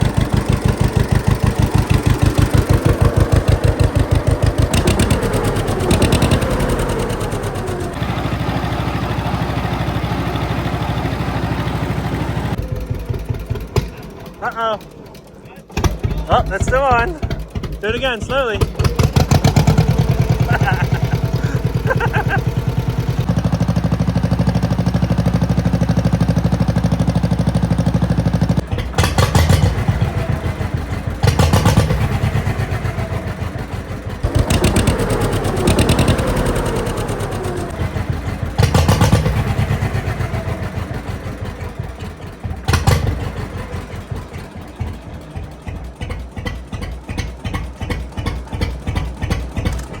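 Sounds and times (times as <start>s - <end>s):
exhaust pops: 0.0s - 23.5s, 27.9s - 50.0s
tractor engine revving and idling: 0.0s - 50.0s.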